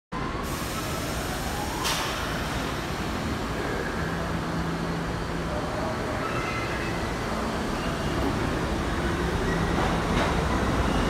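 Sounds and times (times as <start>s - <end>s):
subway train rumbling: 0.2s - 11.0s.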